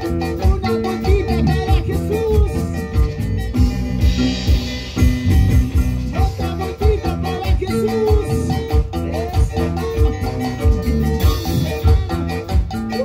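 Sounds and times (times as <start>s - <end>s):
live band playing praise music: 0.0s - 13.0s.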